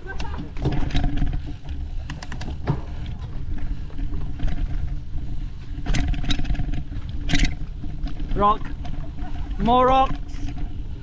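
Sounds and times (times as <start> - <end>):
bike clicks and rattles: 0.0 - 11.0
wind and ride noise rumble: 0.0 - 11.0.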